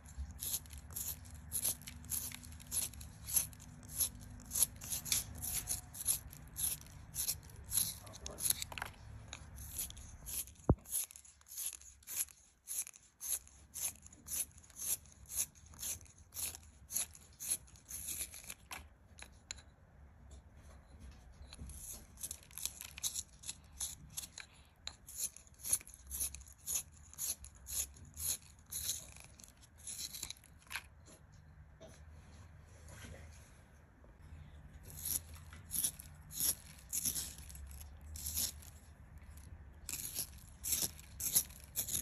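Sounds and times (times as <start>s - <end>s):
pencil sharpener scraping: 0.0s - 19.7s, 21.4s - 30.9s, 34.8s - 42.0s.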